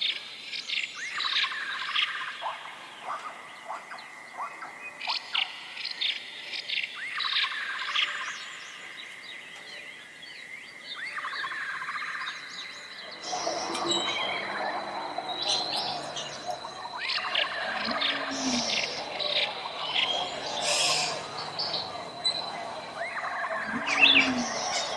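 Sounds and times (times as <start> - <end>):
dense chatter of many birds: 0.0 - 24.9
songbirds chirping and singing: 0.0 - 24.9.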